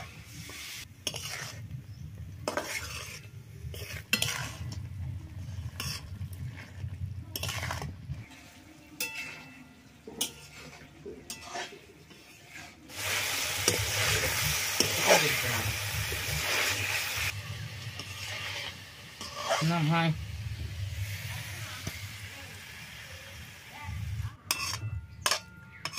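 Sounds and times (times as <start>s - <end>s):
metal spoon scraping a pan: 0.0s - 20.2s, 24.3s - 25.9s
curry sizzling: 0.0s - 25.9s.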